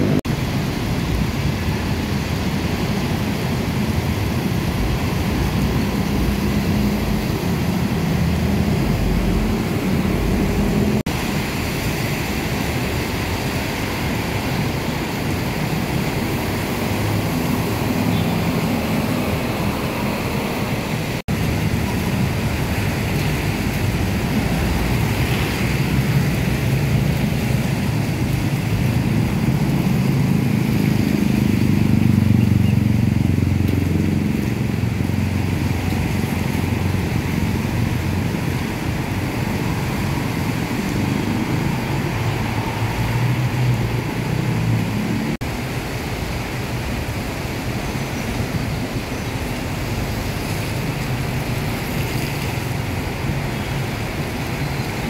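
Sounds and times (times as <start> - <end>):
traffic engine rumble: 0.0 - 55.0
tyres hissing on wet asphalt: 0.0 - 55.0.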